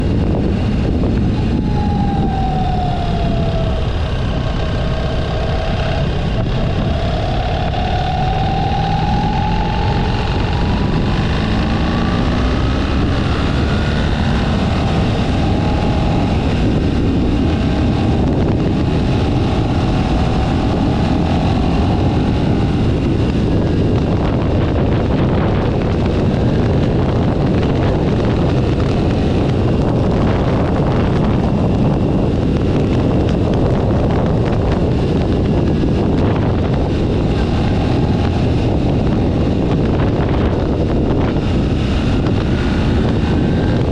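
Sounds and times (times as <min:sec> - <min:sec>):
motorcycle engine revving: 0:00.0 - 0:43.9
wind noise on microphone: 0:00.0 - 0:43.9.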